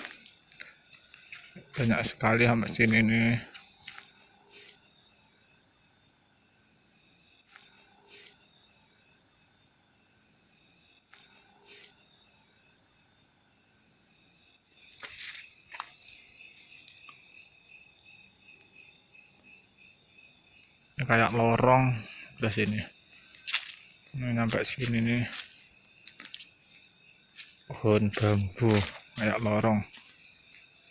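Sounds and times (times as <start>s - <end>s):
crickets and insects chirring: 0.0s - 30.9s.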